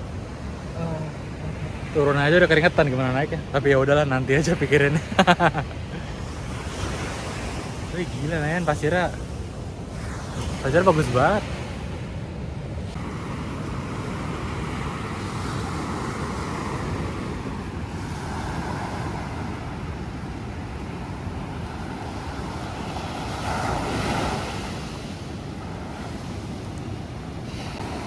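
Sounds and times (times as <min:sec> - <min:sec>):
waves washing onto beach: 0:00.0 - 0:28.0.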